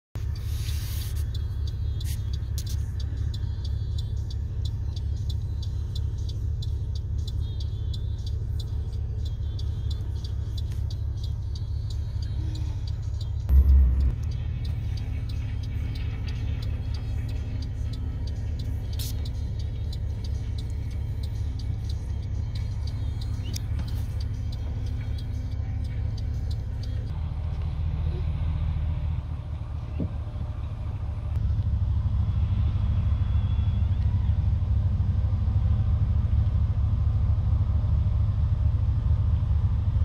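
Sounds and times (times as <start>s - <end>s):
vehicle rumble from inside cab: 0.0s - 40.0s.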